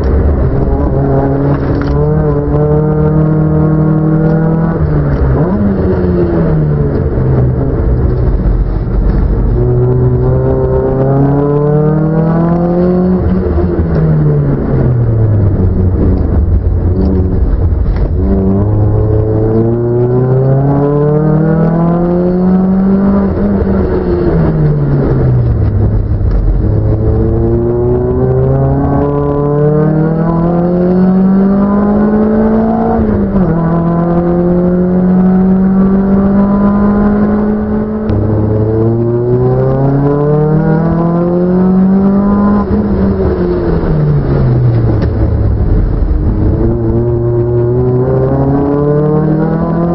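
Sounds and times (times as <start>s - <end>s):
racing car engine revving: 0.0s - 49.9s.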